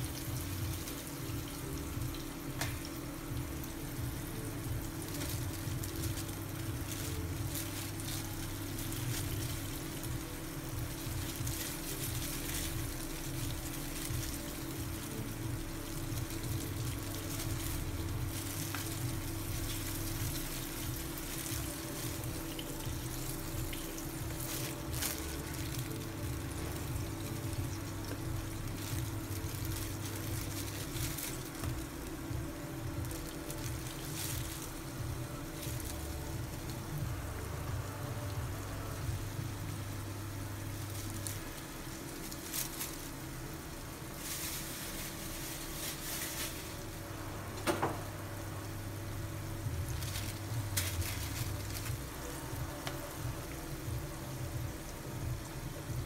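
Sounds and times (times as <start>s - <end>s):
electrical hum: 0.0s - 56.0s
fan hiss: 0.0s - 56.0s.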